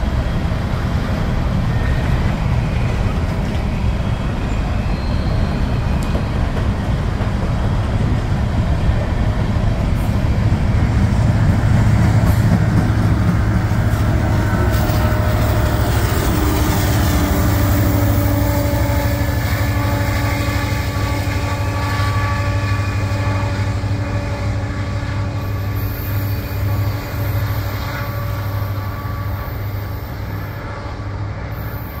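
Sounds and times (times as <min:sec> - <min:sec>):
locomotive engines droning: 0:00.0 - 0:32.0.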